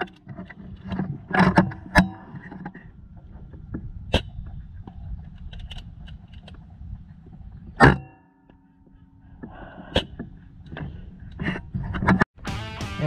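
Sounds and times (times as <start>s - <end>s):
wind rumbling on microphone: 0.0s - 7.9s, 8.8s - 12.2s.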